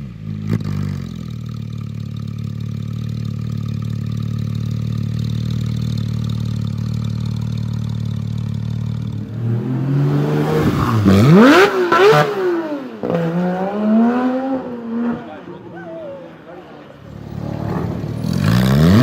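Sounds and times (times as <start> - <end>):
sports car engine idling and revving: 0.0 - 15.7, 16.8 - 19.0.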